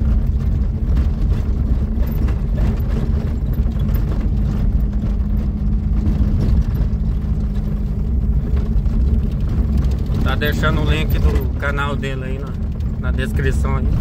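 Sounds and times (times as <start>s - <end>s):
car engine drone: 0.0s - 14.0s
road rumble: 0.0s - 14.0s.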